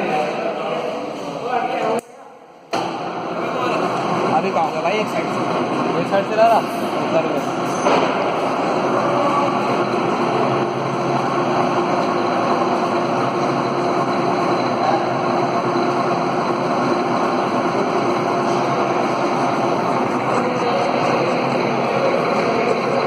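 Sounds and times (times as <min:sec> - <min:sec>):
metal lathe running: 0:03.0 - 0:23.0.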